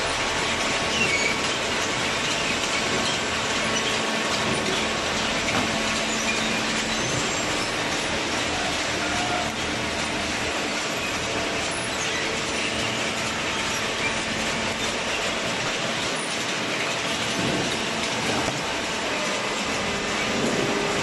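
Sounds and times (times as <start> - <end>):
chain conveyor clattering: 0.0 - 21.0.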